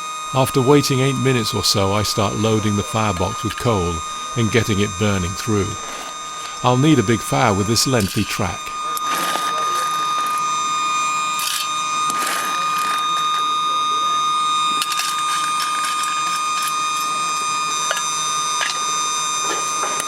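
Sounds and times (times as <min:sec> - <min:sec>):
electric blower high whine: 0:00.0 - 0:20.0.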